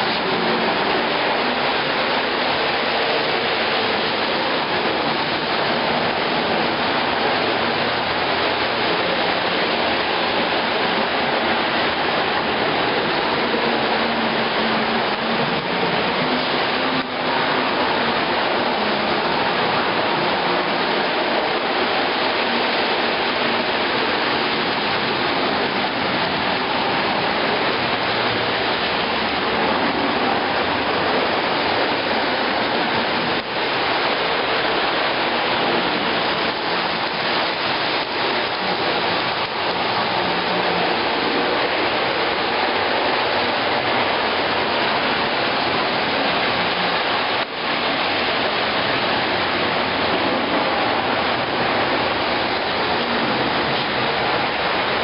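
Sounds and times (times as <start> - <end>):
model train rumbling on track: 0.0 - 55.0.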